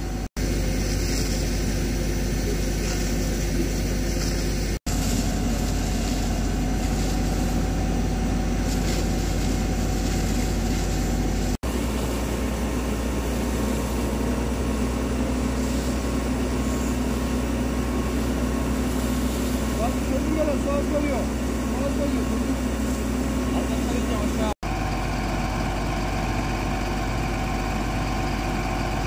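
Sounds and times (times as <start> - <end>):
pump engine running: 0.0 - 29.0
hose jet spraying water: 0.4 - 24.6.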